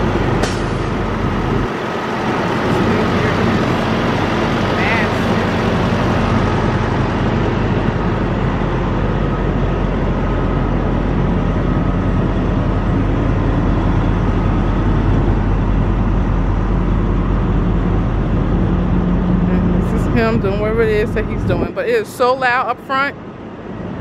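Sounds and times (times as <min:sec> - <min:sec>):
truck diesel engine idling: 0:00.0 - 0:24.0.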